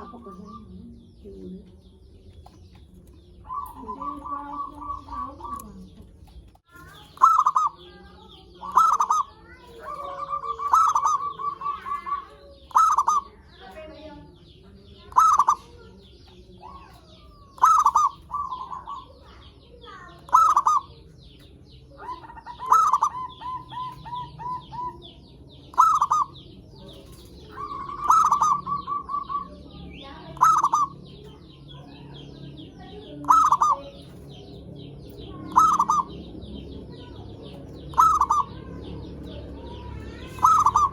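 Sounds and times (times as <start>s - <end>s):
doves cooing: 0.0s - 40.9s.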